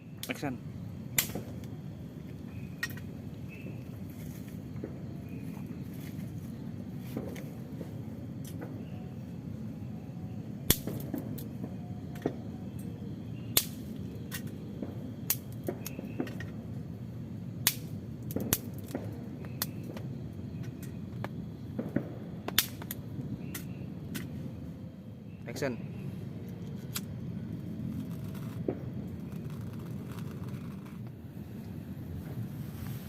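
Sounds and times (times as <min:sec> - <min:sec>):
low background rumble: 0:00.0 - 0:33.0.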